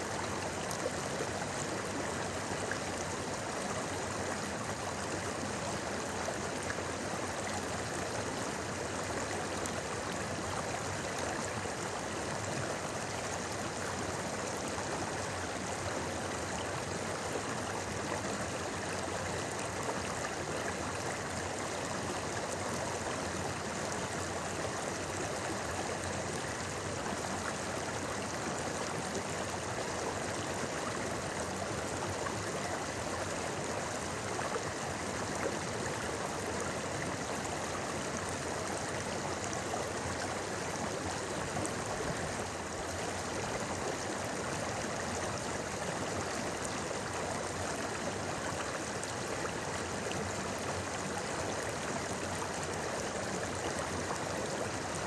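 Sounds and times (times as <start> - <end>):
river water babbling: 0.0 - 55.0.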